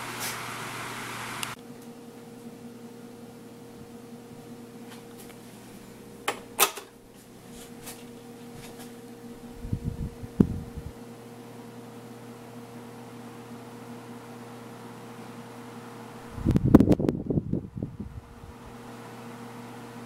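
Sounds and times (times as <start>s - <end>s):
table fan motor hum: 0.0s - 20.0s.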